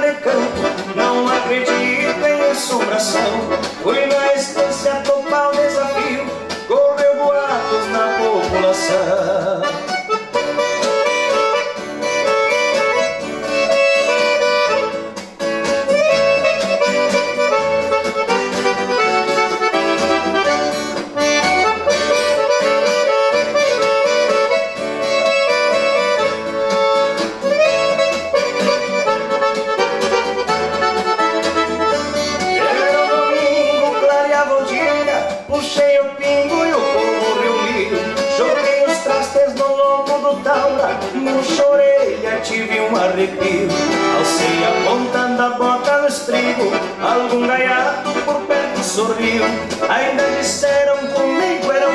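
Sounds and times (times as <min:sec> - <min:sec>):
accordion melody: 0:00.0 - 0:51.9.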